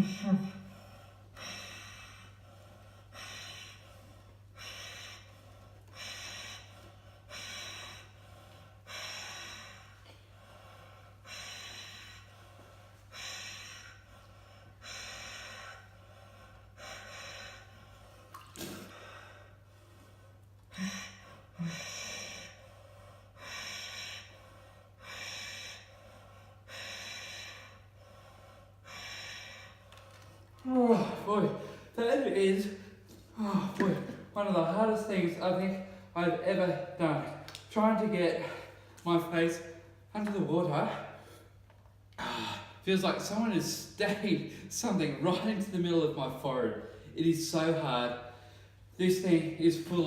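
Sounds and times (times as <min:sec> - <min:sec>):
man breathing hard: 0:00.0 - 0:39.0, 0:40.7 - 0:45.7, 0:47.8 - 0:50.0
steady low hum: 0:00.0 - 0:50.0.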